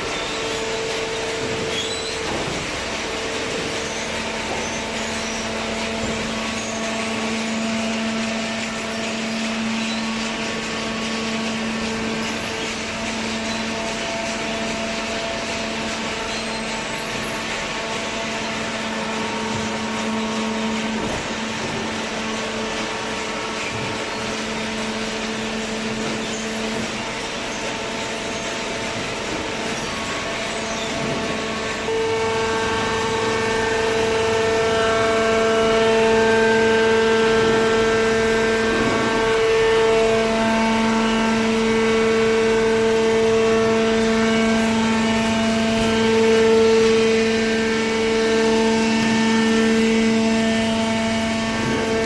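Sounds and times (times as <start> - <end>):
baling press machine hum: 0.0 - 52.0.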